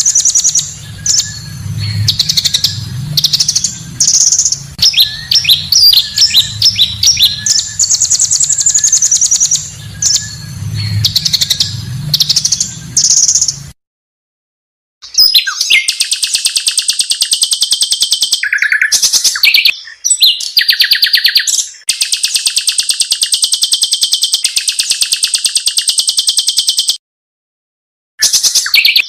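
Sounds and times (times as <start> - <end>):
bird chirping and trilling: 0.0 - 13.8, 15.0 - 27.0, 28.2 - 29.0.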